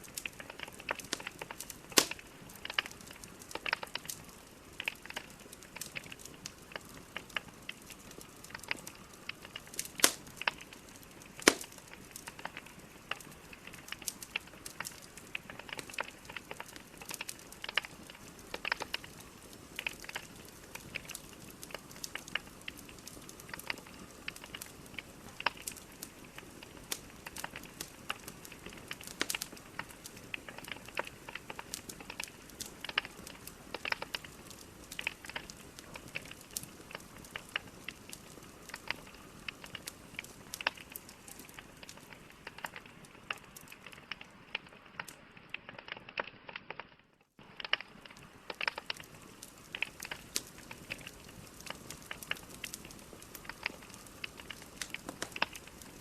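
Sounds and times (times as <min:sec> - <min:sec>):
logs crackling in fireplace: 0:00.0 - 0:56.0.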